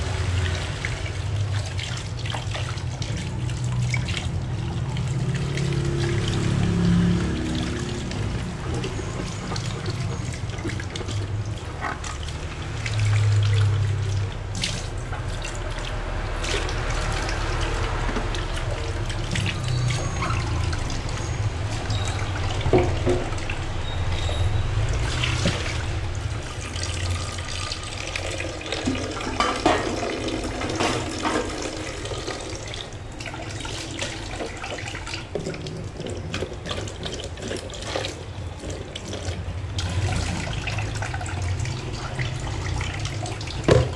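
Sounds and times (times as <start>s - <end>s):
tap water splashing into sink: 0.0s - 43.9s.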